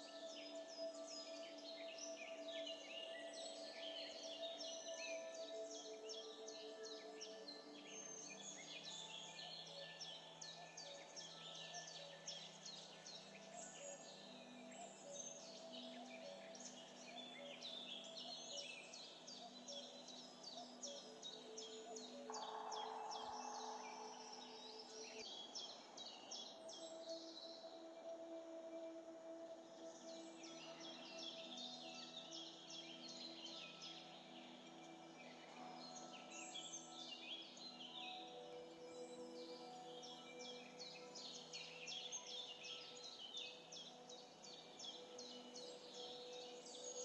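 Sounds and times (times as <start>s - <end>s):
soft background music: 0.0s - 47.0s.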